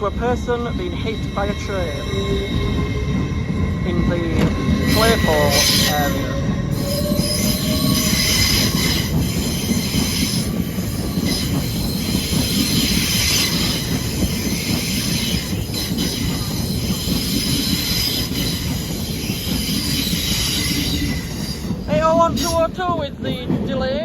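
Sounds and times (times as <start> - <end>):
train wheels squealing on rails: 0.0 - 22.7
train low rumble: 0.0 - 24.0.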